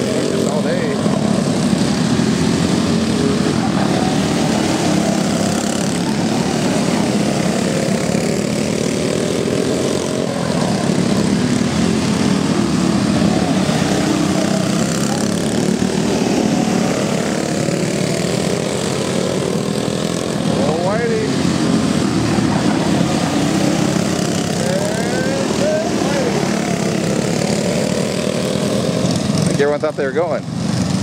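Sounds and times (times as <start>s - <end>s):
go-kart engines racing: 0.0s - 31.0s.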